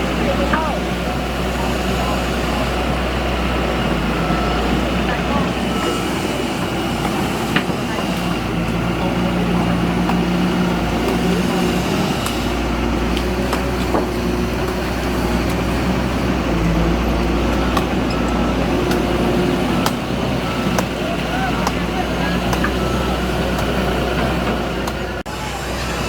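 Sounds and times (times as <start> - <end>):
heavy diesel engine rumbling: 0.0 - 26.0.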